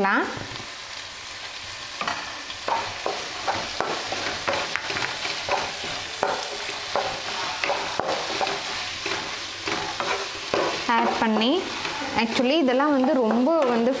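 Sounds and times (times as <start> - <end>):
vegetables sizzling in oil: 0.0 - 14.0
spatula scraping a pan: 2.0 - 14.0.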